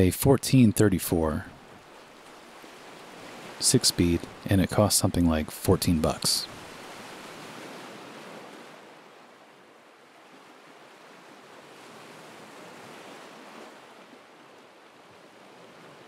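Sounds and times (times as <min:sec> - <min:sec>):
ocean waves breaking on shore: 0:00.0 - 0:16.0.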